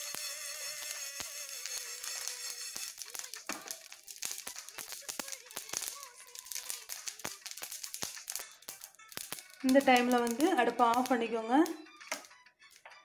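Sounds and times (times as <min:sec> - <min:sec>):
mustard seeds popping in pan: 0:00.0 - 0:13.0.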